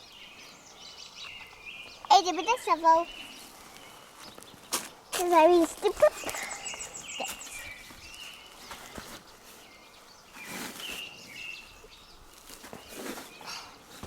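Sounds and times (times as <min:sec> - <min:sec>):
birds chirping whistled phrases: 0:00.0 - 0:12.2.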